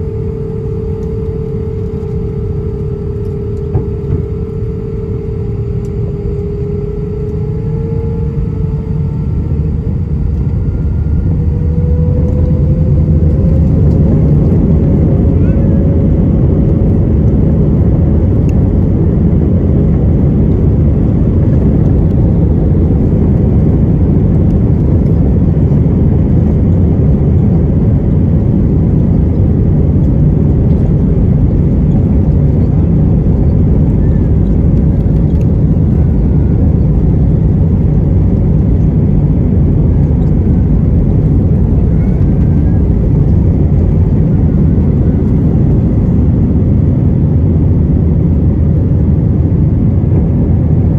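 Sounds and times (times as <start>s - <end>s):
jet cabin low rumbling: 0.0s - 50.9s.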